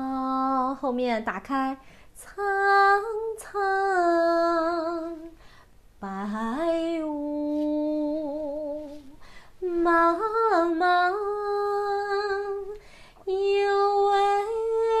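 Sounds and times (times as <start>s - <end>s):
woman singing unaccompanied: 0.0s - 5.4s, 6.0s - 15.0s.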